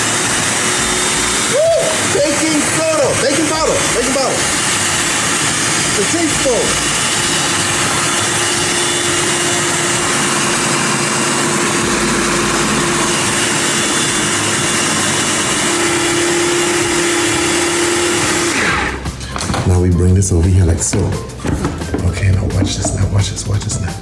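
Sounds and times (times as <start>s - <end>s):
food processor motor running: 0.0s - 19.6s.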